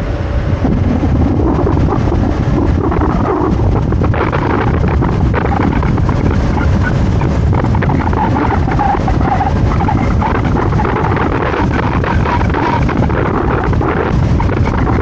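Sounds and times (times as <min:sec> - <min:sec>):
scooter engine rumbling: 0:00.0 - 0:15.0
wind buffeting the microphone: 0:00.0 - 0:15.0.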